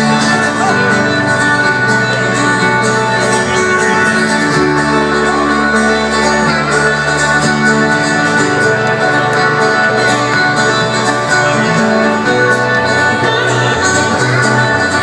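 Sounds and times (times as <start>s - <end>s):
live folk-rock band: 0.0s - 15.0s
strummed acoustic guitar: 0.0s - 15.0s.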